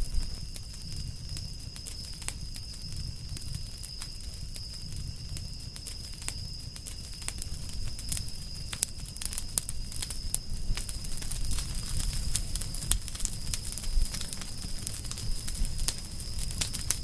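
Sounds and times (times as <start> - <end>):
campfire crackling and popping: 0.0 - 17.0
low rumble of flame: 0.0 - 17.0.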